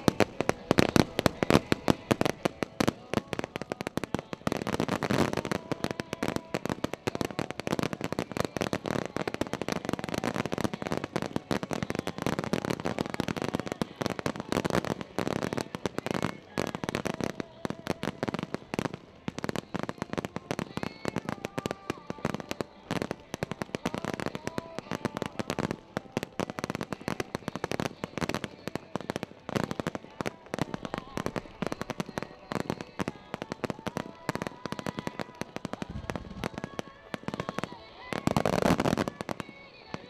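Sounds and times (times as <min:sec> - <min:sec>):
fireworks bangs and crackling: 0:00.0 - 0:40.0.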